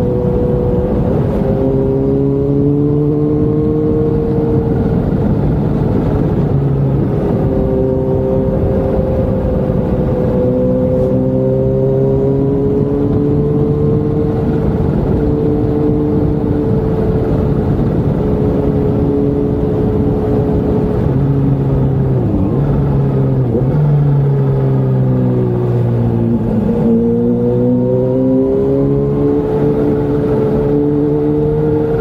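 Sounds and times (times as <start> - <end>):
motorcycle engine cruising: 0.0 - 32.0
wind rumble on microphone: 0.0 - 32.0.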